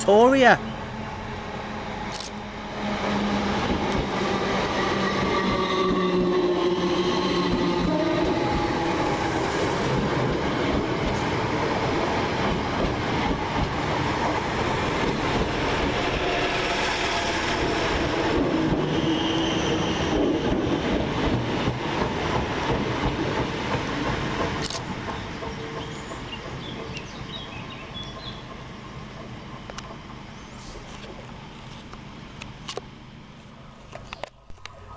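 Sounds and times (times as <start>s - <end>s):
train wheels rumbling on rail: 0.6s - 33.0s.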